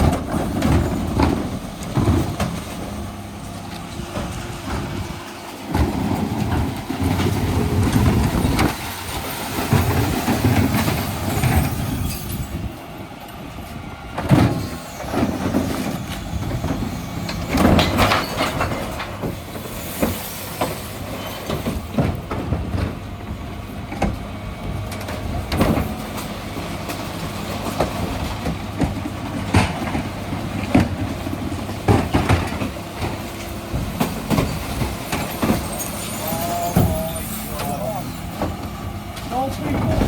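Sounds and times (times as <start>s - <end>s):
bins clanking on lifters: 0.0s - 40.0s
refuse lorry engine running: 0.0s - 40.0s.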